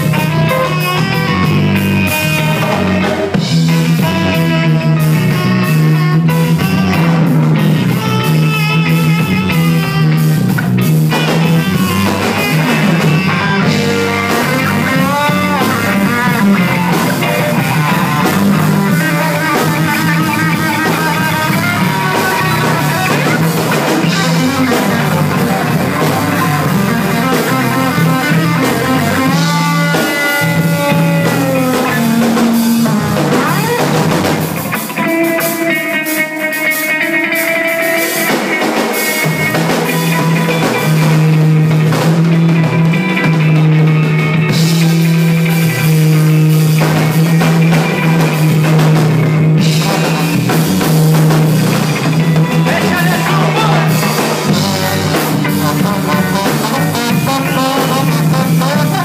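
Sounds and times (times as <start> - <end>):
saxophone lines: 0.0 - 41.7, 49.6 - 59.0
bass guitar: 0.0 - 59.0
drum kit: 0.0 - 59.0
electric guitar: 0.0 - 59.0.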